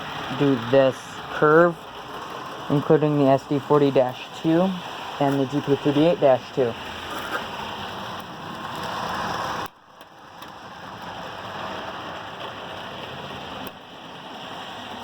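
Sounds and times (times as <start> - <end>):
model train whirring: 0.0 - 15.0.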